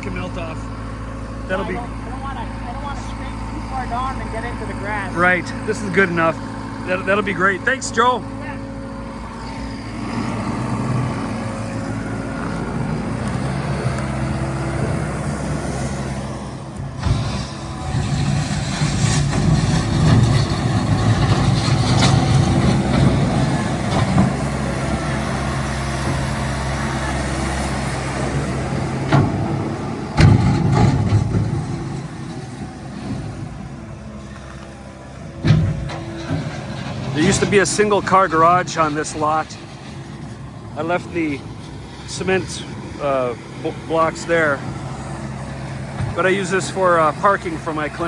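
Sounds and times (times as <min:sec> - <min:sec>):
diesel engine running under load: 0:00.0 - 0:48.0.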